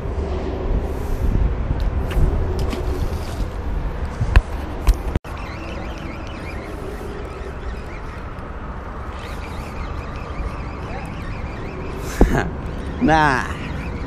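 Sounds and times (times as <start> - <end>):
wind buffeting microphone: 0.0 - 14.0
open water noise: 0.2 - 14.0.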